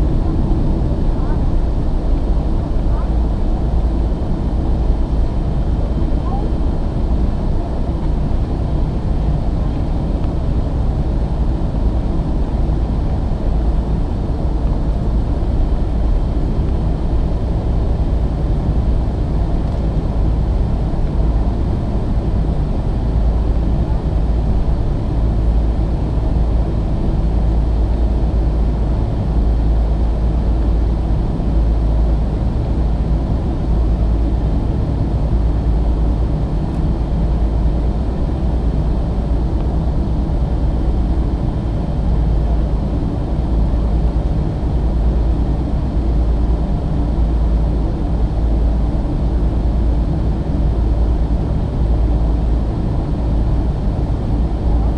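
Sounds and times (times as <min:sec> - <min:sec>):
airplane engines rumbling: 0:00.0 - 0:54.9.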